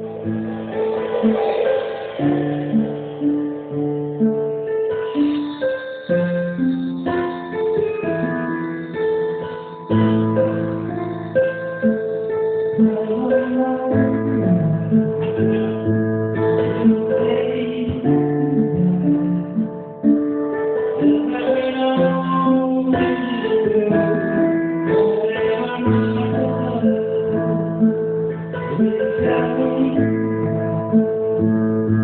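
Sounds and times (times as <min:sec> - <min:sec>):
guitar chords: 0:00.0 - 0:32.0
keyboard chords: 0:00.0 - 0:32.0.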